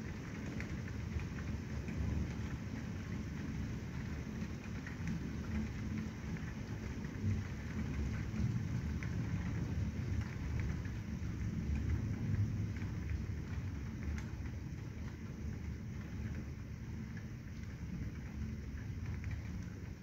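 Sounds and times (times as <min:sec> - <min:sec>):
rain falling: 0:00.0 - 0:20.0
raindrop ticks: 0:00.0 - 0:20.0
rumble of thunder: 0:00.0 - 0:20.0.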